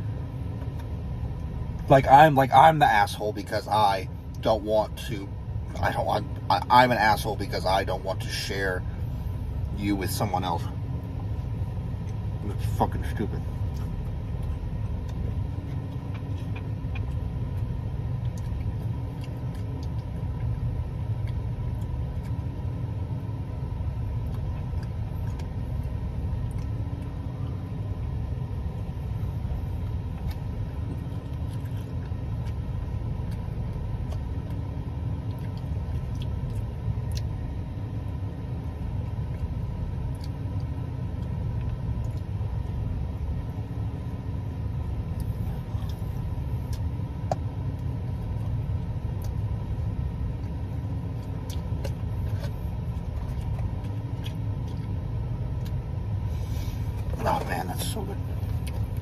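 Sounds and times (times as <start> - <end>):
low rumble: 0.0 - 59.0
wavering faint hum: 0.0 - 59.0.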